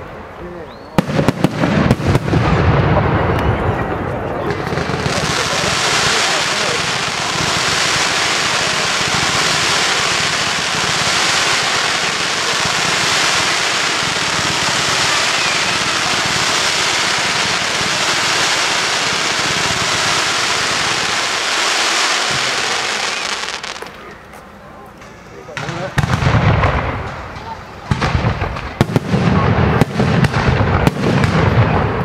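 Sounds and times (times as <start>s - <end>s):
fireworks barrage rushing hiss: 0.9s - 24.0s, 25.6s - 32.0s.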